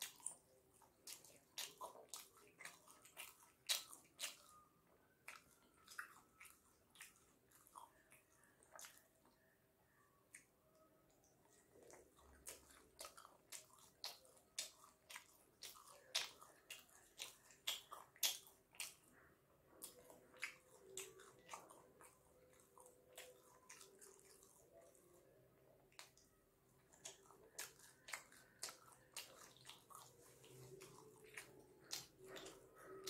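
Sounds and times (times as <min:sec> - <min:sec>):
man chewing with lip smacks: 0:00.0 - 0:09.5, 0:10.2 - 0:33.0.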